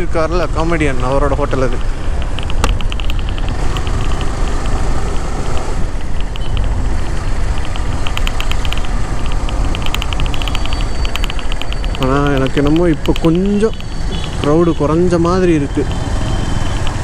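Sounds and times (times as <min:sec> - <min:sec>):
road noise: 0:00.0 - 0:17.0
motorcycle engine running: 0:00.1 - 0:14.7.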